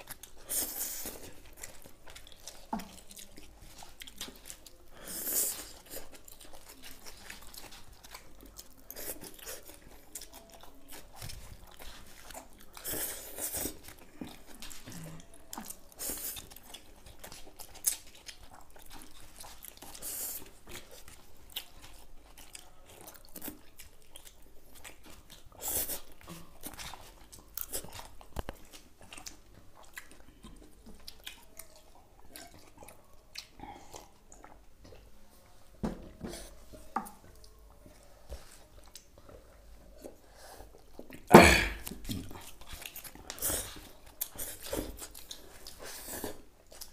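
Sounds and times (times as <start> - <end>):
slurping and chewing: 0.0 - 35.2, 36.2 - 46.9.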